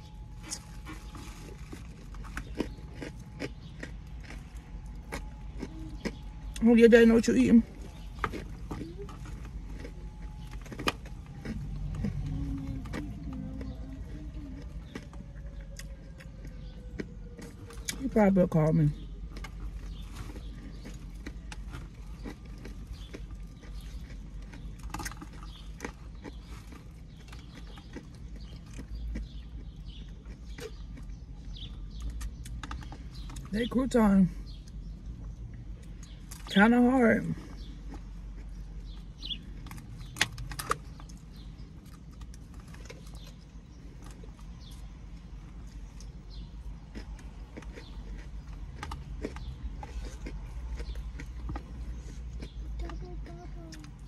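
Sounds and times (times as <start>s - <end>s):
chewing crunchy salad: 0.0s - 54.0s
low steady hum: 0.0s - 54.0s.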